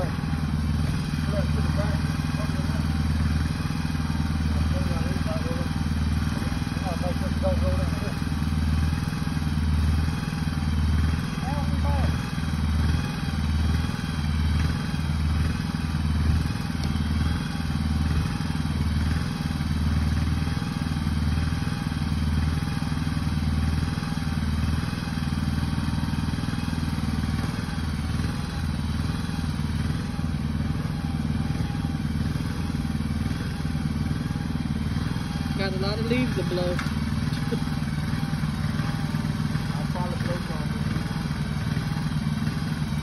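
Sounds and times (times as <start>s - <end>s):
small engine running under load: 0.0s - 43.0s.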